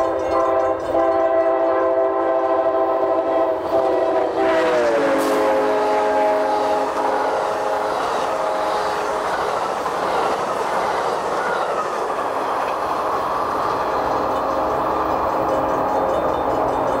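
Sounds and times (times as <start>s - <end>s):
train cars passing at speed: 0.0s - 17.0s
wheels clattering on track: 0.0s - 17.0s.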